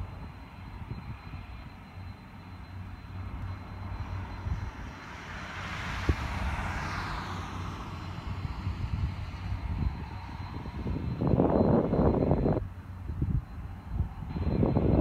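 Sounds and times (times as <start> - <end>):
distant jet engines: 0.0 - 15.0
steady low rumble: 0.0 - 15.0.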